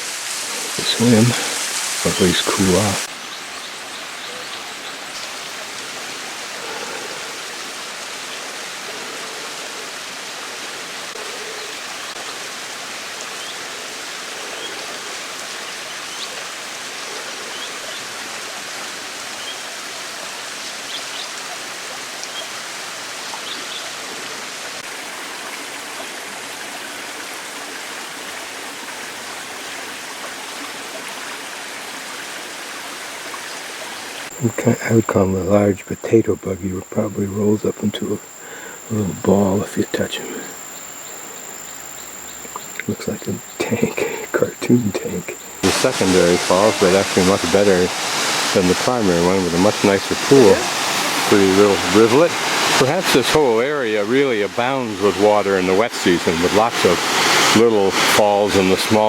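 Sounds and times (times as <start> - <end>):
waterfall and stream rushing: 0.0 - 59.0.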